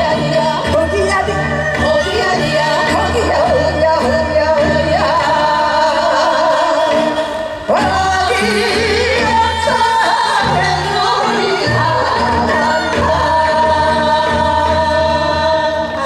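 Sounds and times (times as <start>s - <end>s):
amplified instrumental accompaniment: 0.0s - 16.0s
women singing folk song: 0.0s - 16.0s.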